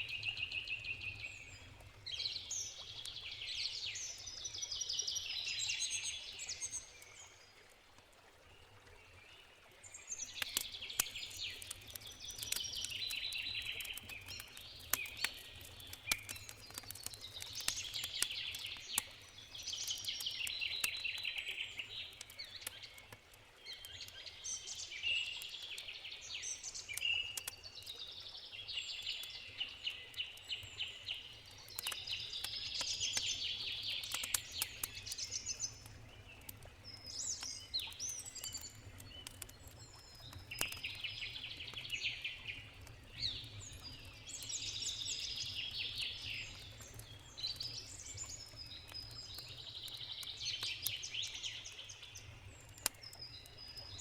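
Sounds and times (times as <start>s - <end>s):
songbirds singing: 0.0s - 7.6s, 8.5s - 54.0s
campfire crackling: 9.8s - 54.0s.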